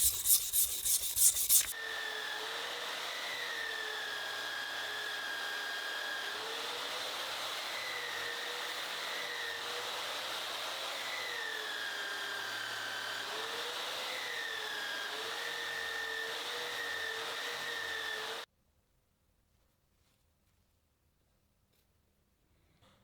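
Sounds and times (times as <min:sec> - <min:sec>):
power tool motor whining: 0:00.0 - 0:18.5.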